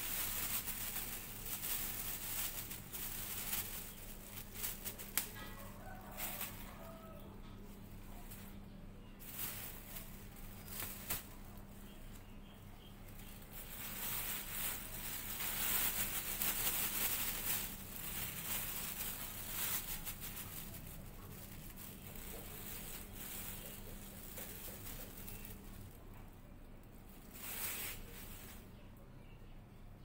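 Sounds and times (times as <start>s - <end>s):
plastic bag rustling: 0.0s - 8.6s, 9.2s - 26.3s, 27.1s - 28.7s.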